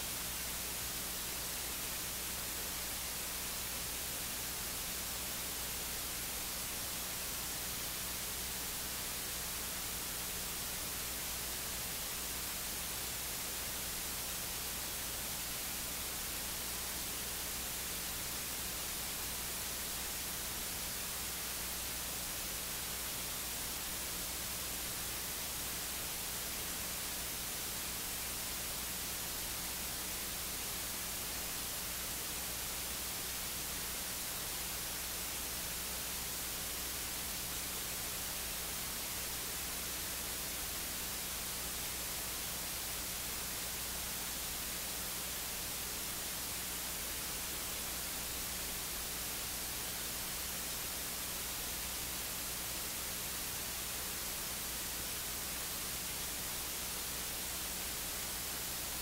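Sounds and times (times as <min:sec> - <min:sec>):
electronic static hiss: 0:00.0 - 0:59.0.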